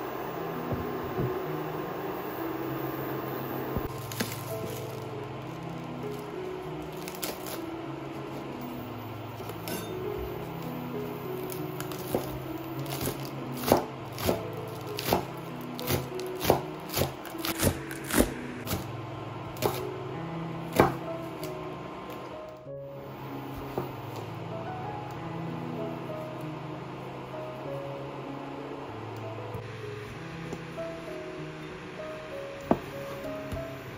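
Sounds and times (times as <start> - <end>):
soft background music: 0.0 - 33.9.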